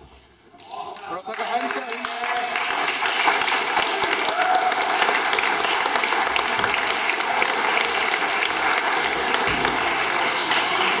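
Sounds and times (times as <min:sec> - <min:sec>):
crowd applauding: 0:00.6 - 0:11.0.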